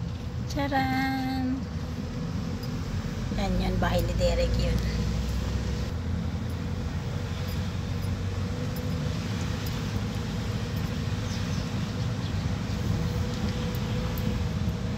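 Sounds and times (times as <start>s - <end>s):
car cabin engine and tyre rumble: 0.0s - 14.9s.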